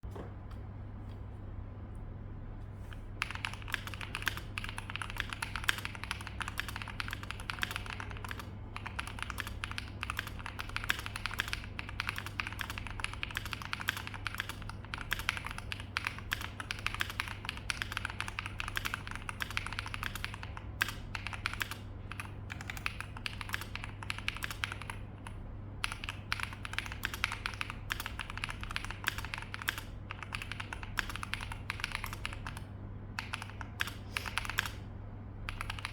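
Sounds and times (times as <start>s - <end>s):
fast typing on mechanical keyboard: 3.2s - 35.9s.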